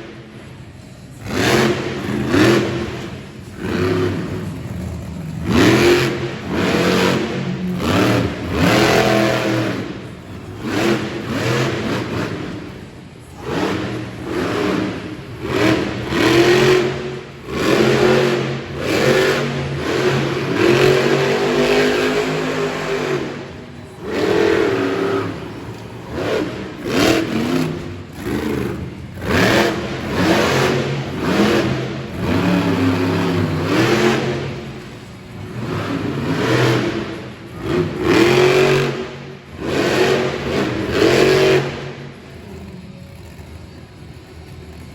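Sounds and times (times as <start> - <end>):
truck engine revving hard: 0.0 - 43.4.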